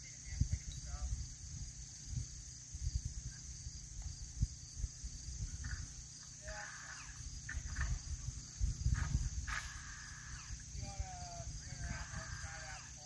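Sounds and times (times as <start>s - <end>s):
crickets and insects chirping: 0.0s - 13.0s
low rumble on microphone: 0.0s - 13.0s.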